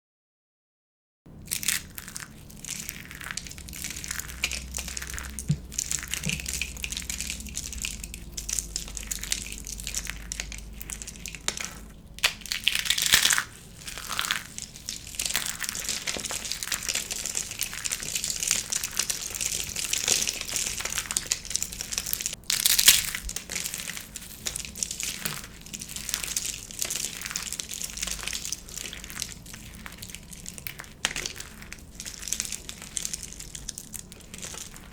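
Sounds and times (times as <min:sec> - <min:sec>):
dry soap crunching: 0:01.3 - 0:34.9.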